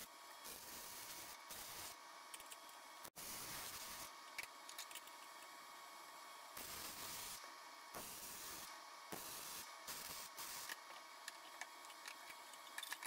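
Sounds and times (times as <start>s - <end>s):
welding arc crackling hiss: 0.0s - 4.6s, 6.5s - 12.7s.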